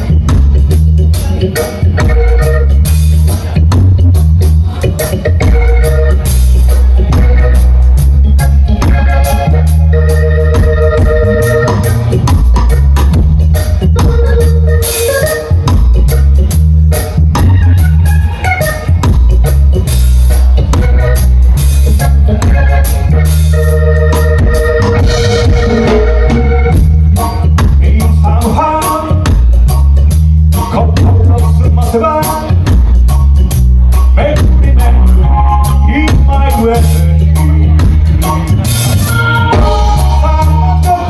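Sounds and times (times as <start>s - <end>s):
organ chords: 0.0s - 41.0s
reggae band playing: 0.0s - 41.0s.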